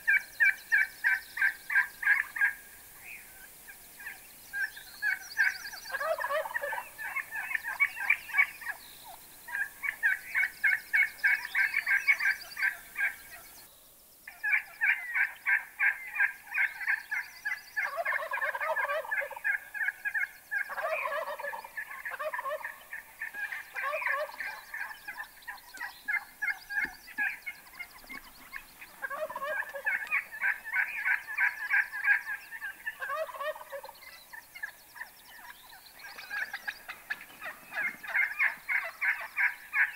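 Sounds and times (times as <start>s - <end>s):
turkeys gobbling: 0.0s - 2.6s, 4.0s - 8.8s, 9.5s - 13.4s, 14.3s - 39.9s.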